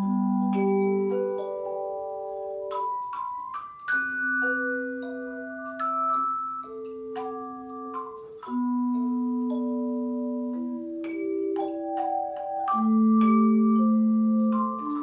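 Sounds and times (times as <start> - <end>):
tone chimes playing melody: 0.0 - 15.0.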